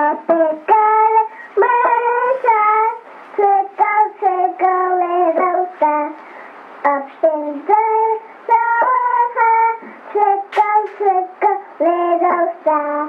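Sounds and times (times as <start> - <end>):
young child singing: 0.0 - 6.2, 6.8 - 13.0.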